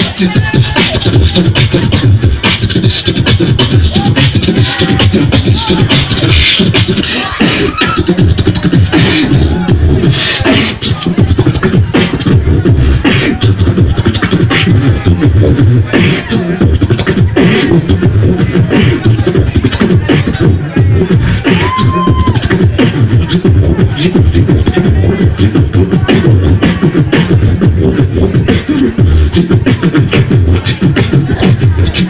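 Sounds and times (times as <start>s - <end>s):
beatboxing through pa system: 0.0s - 32.0s.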